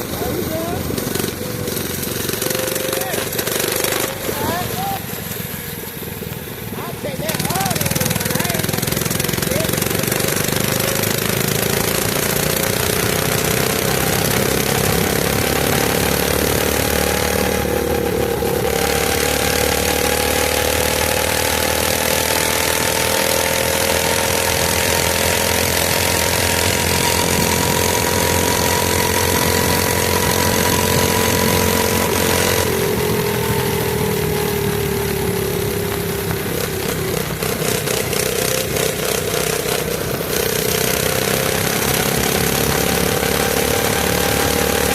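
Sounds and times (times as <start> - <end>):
small engine running under throttle: 0.0 - 44.9.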